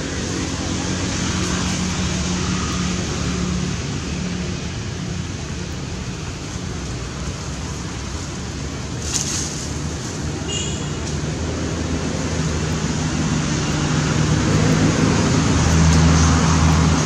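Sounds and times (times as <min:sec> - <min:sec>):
rushing outdoor noise: 0:00.0 - 0:17.0.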